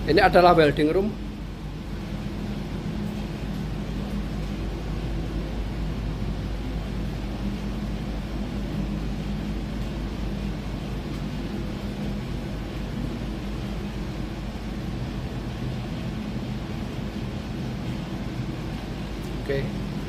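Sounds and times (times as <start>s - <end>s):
engine room machinery hum: 0.0s - 20.0s.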